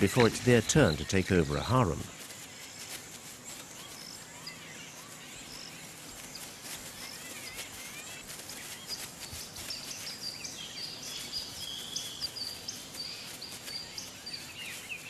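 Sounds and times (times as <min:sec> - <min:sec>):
birds chirping and whistling: 0:00.0 - 0:15.0
insect hiss: 0:00.0 - 0:15.0.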